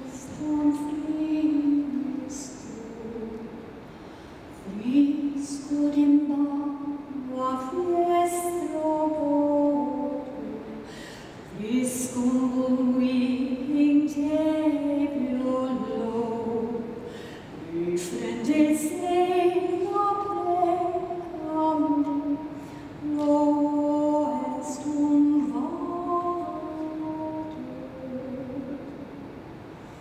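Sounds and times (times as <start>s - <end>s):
soprano singing unaccompanied: 0.0s - 3.9s, 4.6s - 29.4s.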